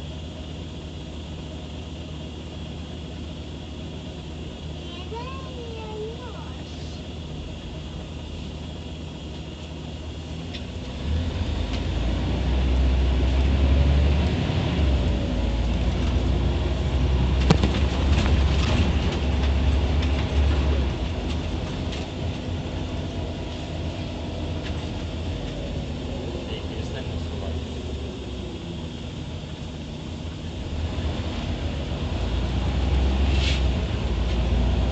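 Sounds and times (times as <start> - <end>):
bus engine pulling away: 0.0 - 34.9.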